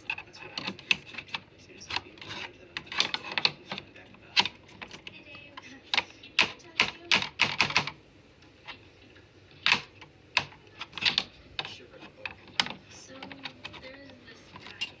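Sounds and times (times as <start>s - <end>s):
hard objects clicking and knocking: 0.0s - 8.8s, 9.5s - 15.0s.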